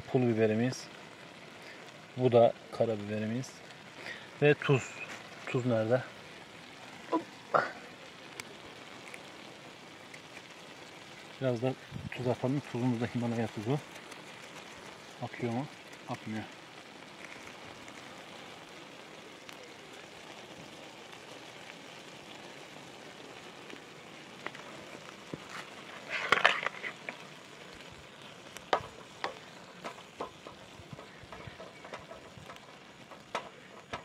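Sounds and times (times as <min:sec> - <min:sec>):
meat and onions sizzling: 0:00.0 - 0:34.0.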